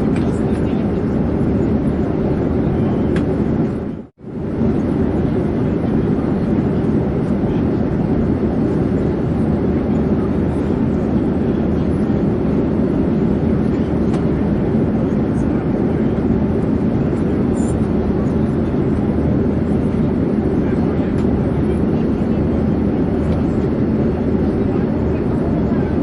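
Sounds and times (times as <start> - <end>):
airplane engine drone: 0.0 - 26.0.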